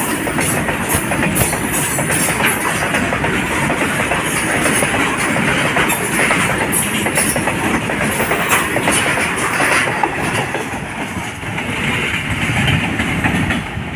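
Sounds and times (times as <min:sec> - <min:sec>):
train wheels clattering over rail joints: 0:00.0 - 0:13.9.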